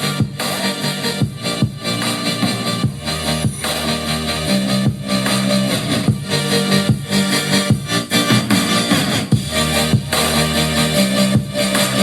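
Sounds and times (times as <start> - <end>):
heavy kick drum beat: 0.0 - 0.4, 1.2 - 4.0, 4.6 - 12.0
electronic dance music: 0.0 - 12.0.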